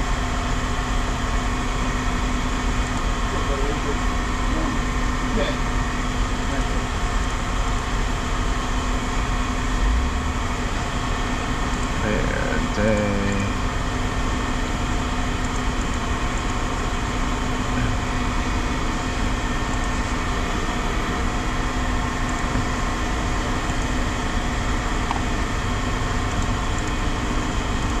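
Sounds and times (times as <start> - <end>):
machine engine droning: 0.0 - 28.0.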